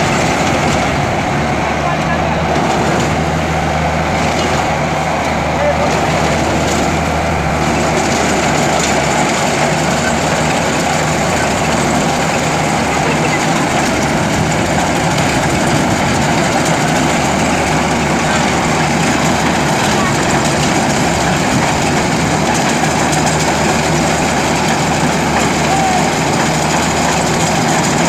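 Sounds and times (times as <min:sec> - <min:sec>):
harvester engine hum: 0:00.0 - 0:28.0.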